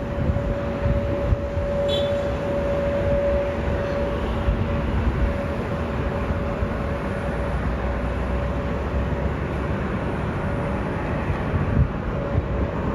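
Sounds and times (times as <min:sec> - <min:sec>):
jet engines at takeoff thrust: 0:00.0 - 0:12.9.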